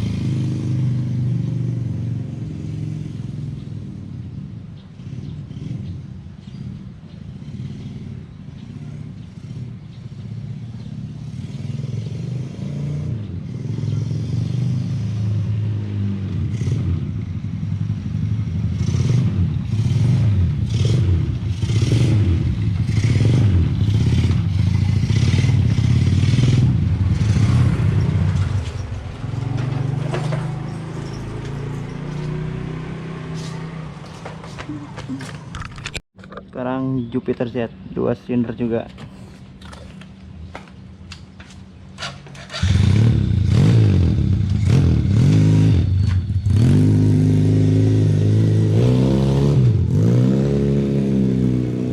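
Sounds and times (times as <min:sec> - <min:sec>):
motorcycle engine revving: 0:00.0 - 0:36.0, 0:41.9 - 0:51.9.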